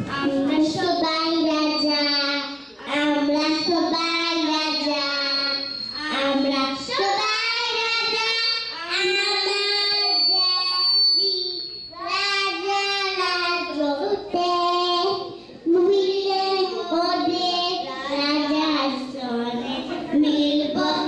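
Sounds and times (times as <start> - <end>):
girl singing into a microphone: 0.0 - 21.0.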